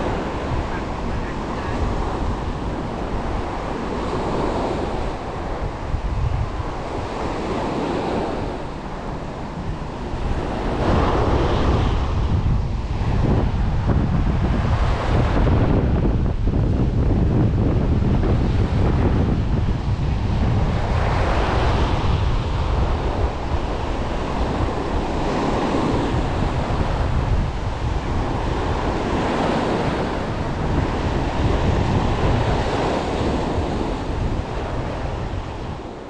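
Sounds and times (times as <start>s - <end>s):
surf washing onto beach: 0.0s - 36.0s
wind buffeting microphone: 0.0s - 36.0s.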